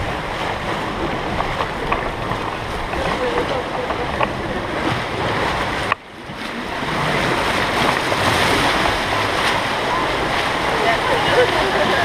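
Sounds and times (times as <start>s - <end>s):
rushing splashing water: 0.0s - 12.0s.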